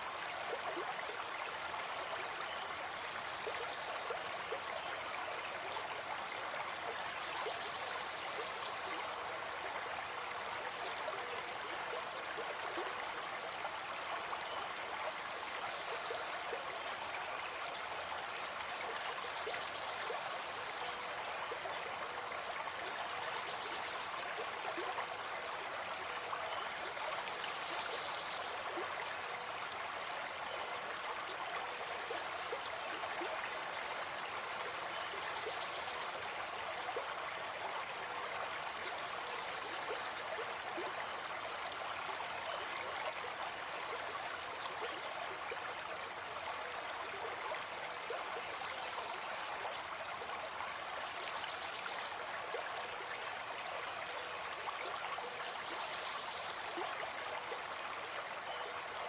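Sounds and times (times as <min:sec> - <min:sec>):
stream water trickling: 0:00.0 - 0:59.0.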